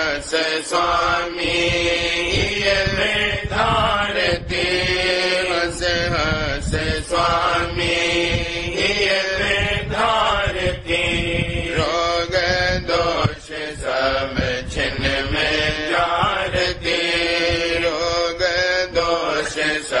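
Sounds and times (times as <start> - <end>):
person singing devotional hymn: 0.0 - 20.0.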